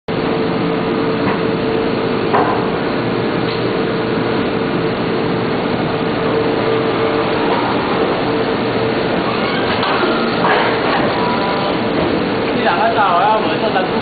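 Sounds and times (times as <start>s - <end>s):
machinery hum with constant tone: 0.1s - 14.0s.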